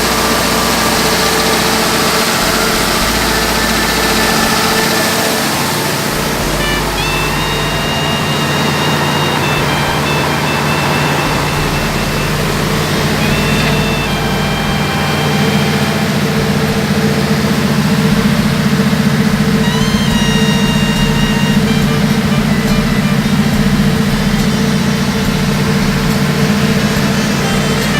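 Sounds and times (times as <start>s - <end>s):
diesel generator running: 0.0s - 27.9s.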